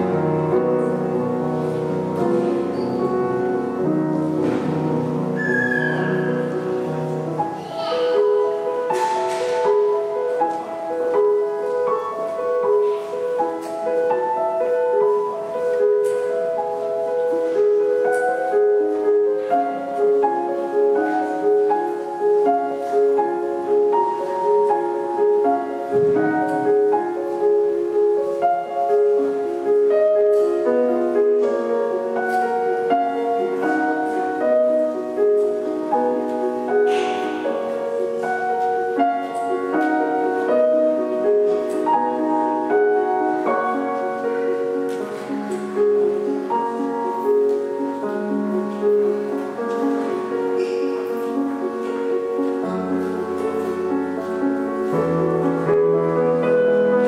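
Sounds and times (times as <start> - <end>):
slow solo keyboard music: 0.0 - 57.0.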